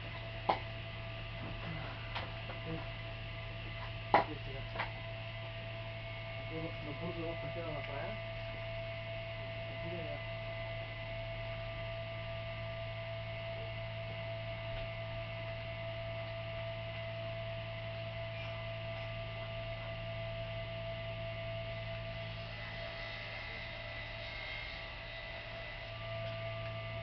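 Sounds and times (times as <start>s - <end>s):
electrical hum with high whine: 0.0s - 27.0s.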